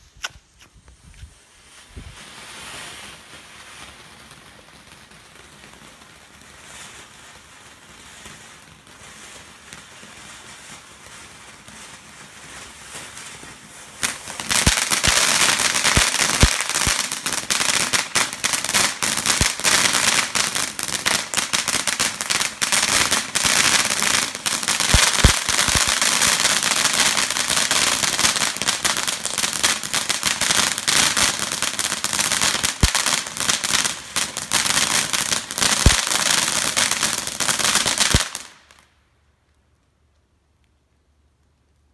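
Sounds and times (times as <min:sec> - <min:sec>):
firework fountain hissing: 0:00.0 - 0:38.6
firework loud dense crackling: 0:00.0 - 0:39.1.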